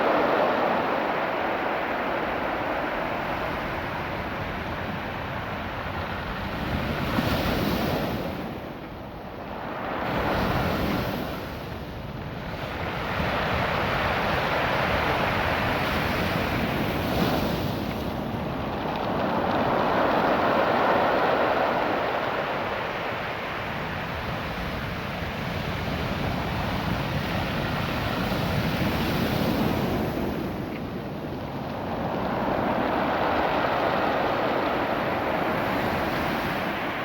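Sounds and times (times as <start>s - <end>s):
surf washing over pebbles: 0.0s - 8.8s, 9.4s - 37.0s.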